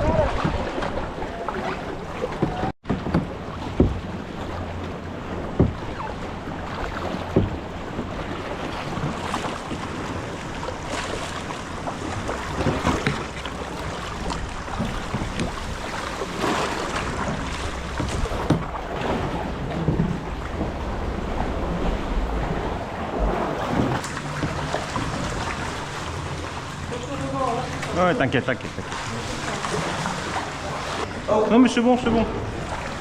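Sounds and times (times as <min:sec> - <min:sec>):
paddle splashes and knocks: 0:00.0 - 0:33.0
water lapping and splashing: 0:00.0 - 0:33.0.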